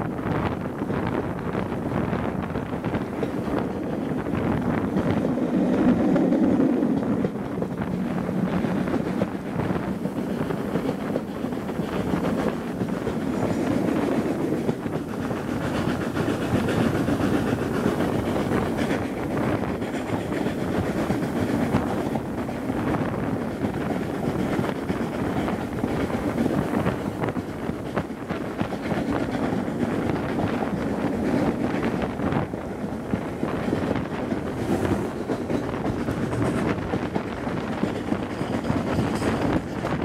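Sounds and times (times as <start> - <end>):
train wheels rumbling on rails: 0.0 - 40.0
wind buffeting microphone: 0.0 - 40.0.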